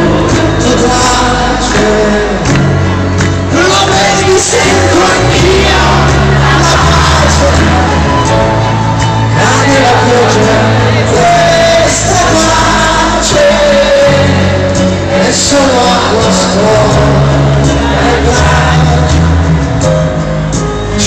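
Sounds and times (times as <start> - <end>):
person singing: 0.0 - 19.8
live pop-rock band: 0.0 - 21.0.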